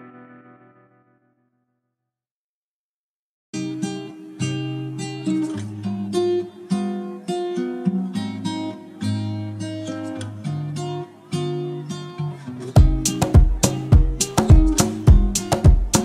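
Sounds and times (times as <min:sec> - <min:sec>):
acoustic guitar plucking and strumming: 0:00.0 - 0:01.4, 0:03.6 - 0:16.0.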